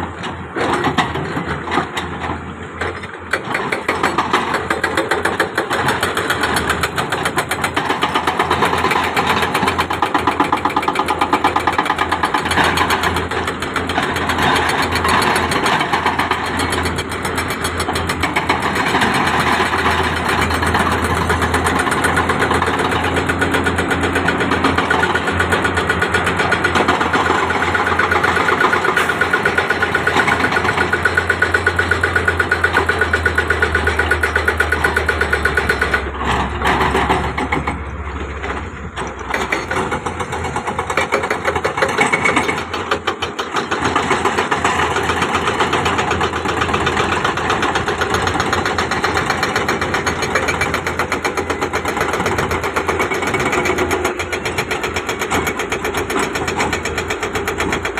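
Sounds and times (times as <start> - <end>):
heavy machinery diesel engine: 0.0 - 57.9.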